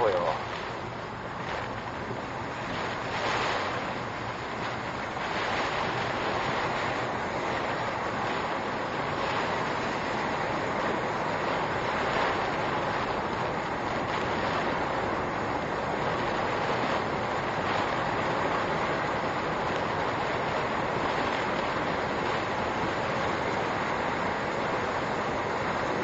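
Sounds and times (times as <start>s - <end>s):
wind and rain heard inside car: 0.0s - 26.0s.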